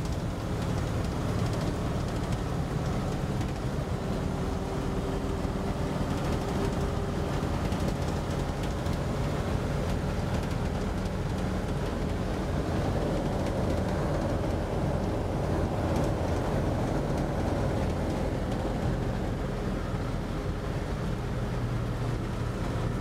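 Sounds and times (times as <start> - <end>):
road noise: 0.0 - 23.0
truck engine droning: 0.0 - 23.0.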